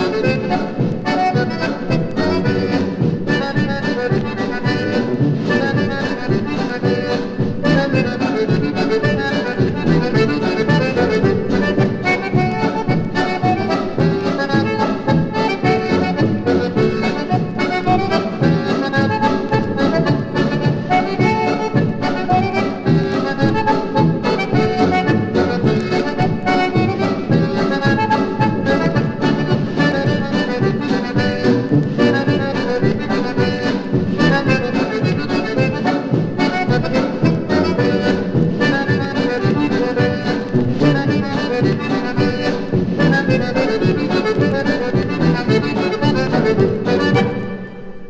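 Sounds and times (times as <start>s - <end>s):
polka band with accordion: 0.0s - 48.0s.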